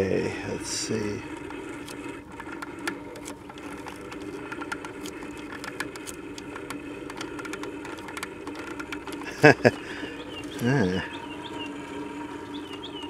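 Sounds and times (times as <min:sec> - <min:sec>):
turntable motor humming: 0:00.0 - 0:13.0.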